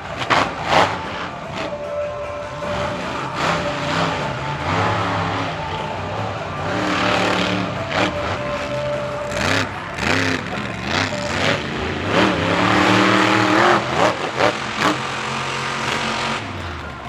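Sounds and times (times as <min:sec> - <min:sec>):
truck engines revving hard: 0:00.0 - 0:17.0.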